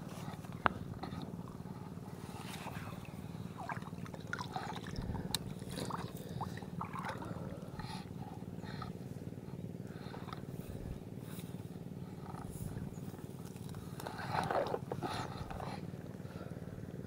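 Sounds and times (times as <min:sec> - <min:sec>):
small engine droning: 0:00.0 - 0:17.0.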